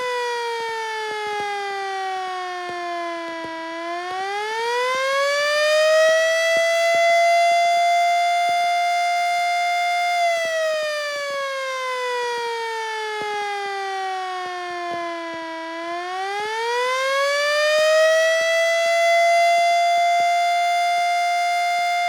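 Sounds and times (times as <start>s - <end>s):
mechanical siren wailing: 0.0s - 22.0s.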